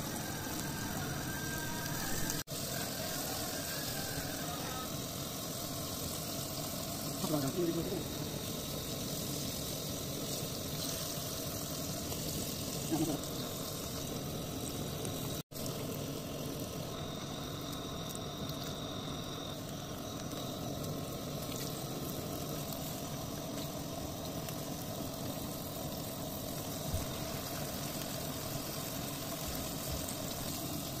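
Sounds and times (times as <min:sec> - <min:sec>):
fish deep-frying in hot oil: 0:00.0 - 0:31.0.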